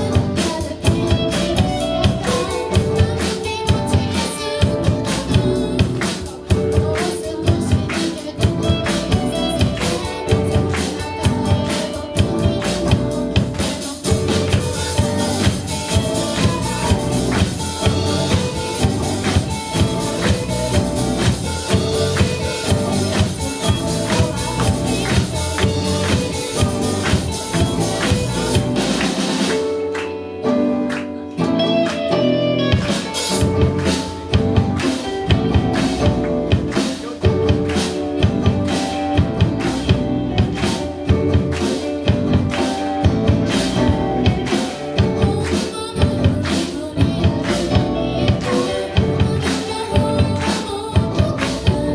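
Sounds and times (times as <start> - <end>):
drum kit beat: 0.0 - 51.9
electric guitars: 0.0 - 51.9
live rock band playing: 0.0 - 51.9.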